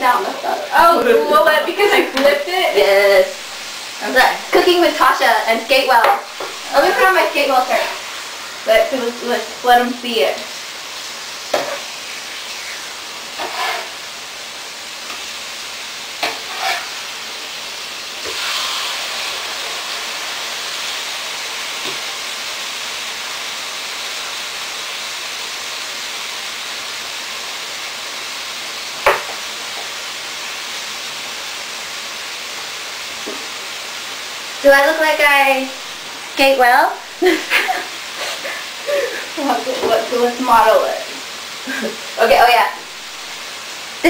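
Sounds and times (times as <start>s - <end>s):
steaks sizzling on griddle: 0.0s - 44.0s.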